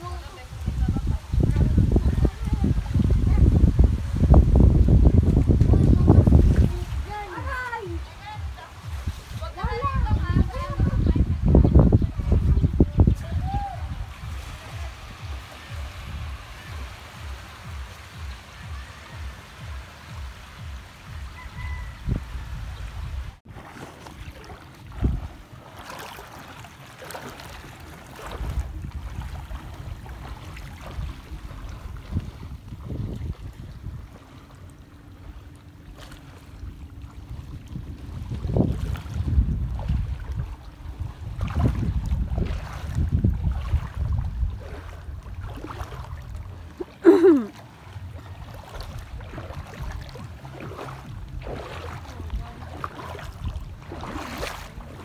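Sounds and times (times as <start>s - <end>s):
seawater lapping among rocks: 0.0s - 55.0s
wind rumbling on microphone: 0.0s - 55.0s.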